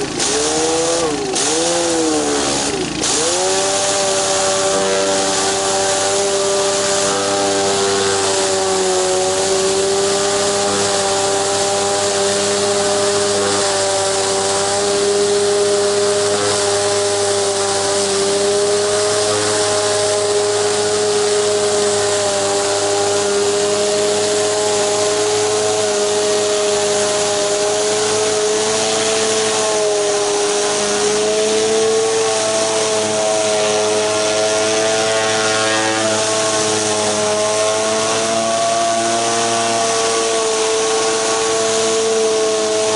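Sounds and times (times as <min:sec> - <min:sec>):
pressure washer engine running: 0:00.0 - 0:42.9
water spraying onto concrete: 0:00.0 - 0:42.9.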